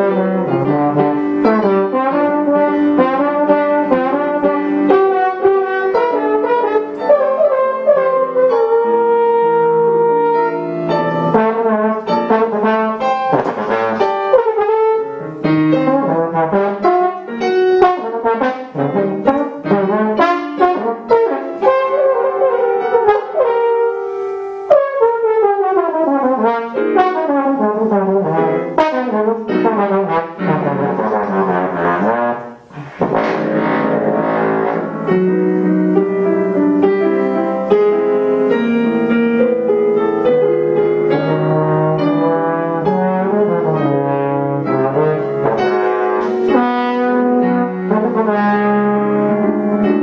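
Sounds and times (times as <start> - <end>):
trombone solo: 0.0 - 50.0.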